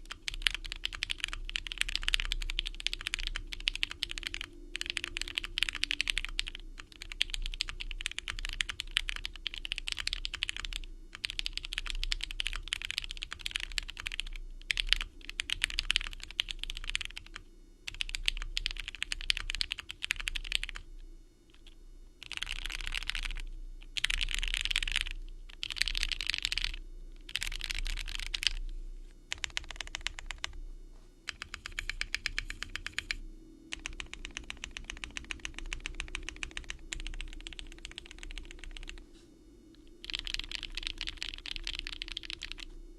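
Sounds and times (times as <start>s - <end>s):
mechanical keyboard typing: 0.0s - 20.8s, 21.5s - 28.6s, 29.3s - 30.6s, 31.3s - 39.0s, 40.0s - 42.7s.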